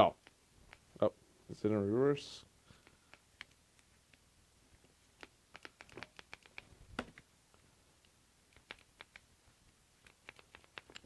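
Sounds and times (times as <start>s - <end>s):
faint clicks and taps: 0.0s - 1.0s, 2.7s - 11.0s.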